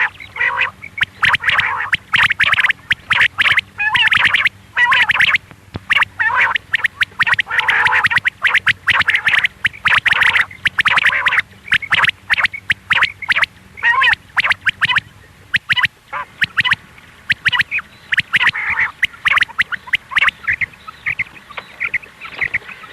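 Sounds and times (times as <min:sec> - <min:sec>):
quail chirping: 0:00.0 - 0:22.9.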